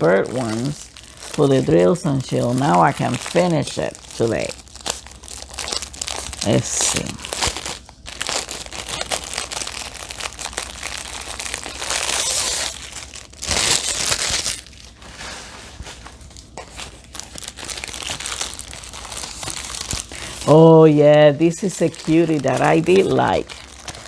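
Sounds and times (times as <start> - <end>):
plastic packaging crinkling: 0.0 - 24.0.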